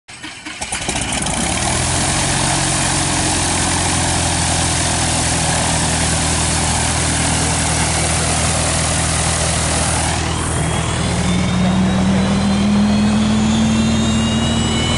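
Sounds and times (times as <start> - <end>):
light airplane engine droning: 0.4 - 14.9.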